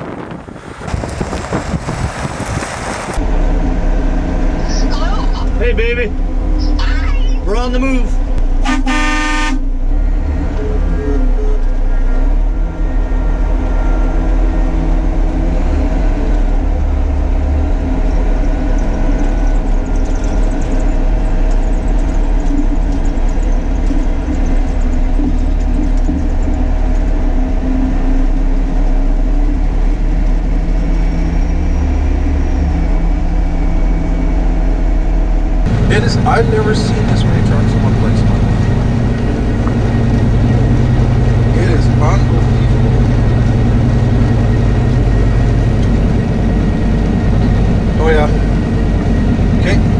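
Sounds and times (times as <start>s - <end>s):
heavy truck engines droning: 0.0s - 49.9s.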